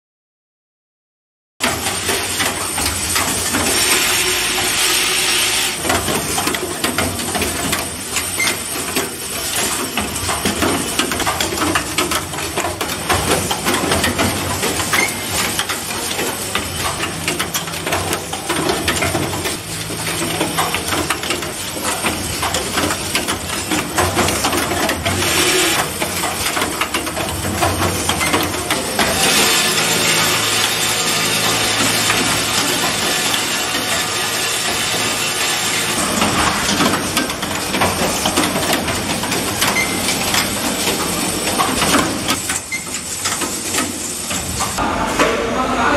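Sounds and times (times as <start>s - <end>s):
machine clicking and knocking: 1.6s - 4.9s, 5.8s - 44.8s.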